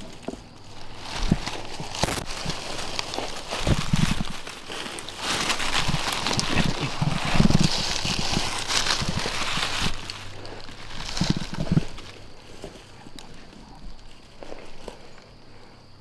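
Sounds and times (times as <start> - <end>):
rustling and crackling at microphone: 0.0 - 16.0.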